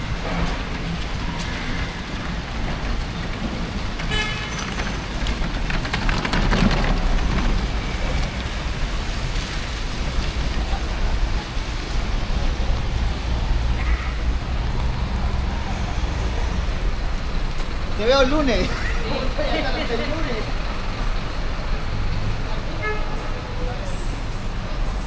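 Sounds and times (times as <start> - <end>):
rain on a city street: 0.0 - 25.0
traffic noise: 0.0 - 25.0.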